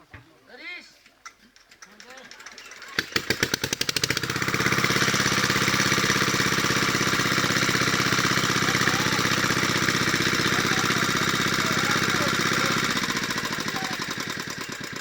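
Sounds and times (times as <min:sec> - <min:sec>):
small engine running: 0:01.6 - 0:15.0.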